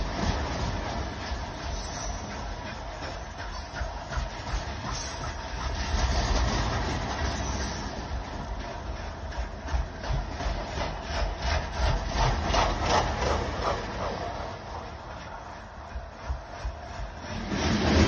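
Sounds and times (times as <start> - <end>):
train wheels rumbling on rails: 0.0 - 18.0
wheels clicking and clacking: 0.0 - 18.0.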